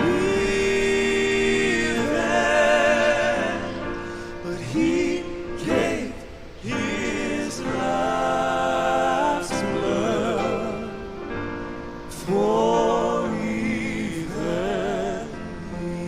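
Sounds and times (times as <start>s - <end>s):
male quartet singing in harmony: 0.0s - 16.0s.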